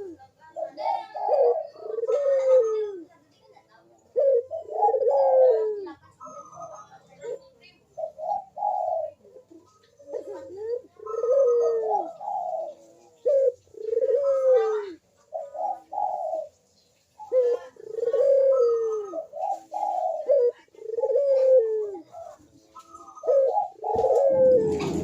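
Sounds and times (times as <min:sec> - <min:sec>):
dove cooing: 0:00.0 - 0:03.4, 0:04.0 - 0:25.0.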